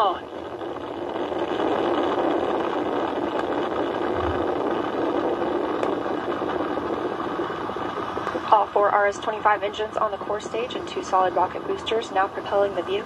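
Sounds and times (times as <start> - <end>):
rocket engines roaring: 0.0 - 13.0
rocket exhaust crackling: 0.0 - 13.0.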